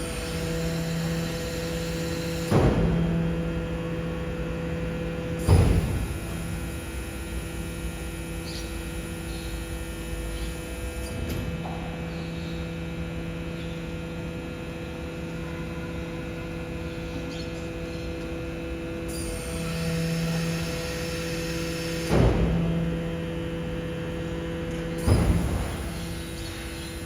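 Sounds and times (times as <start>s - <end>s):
garbage truck compactor humming: 0.0s - 27.0s.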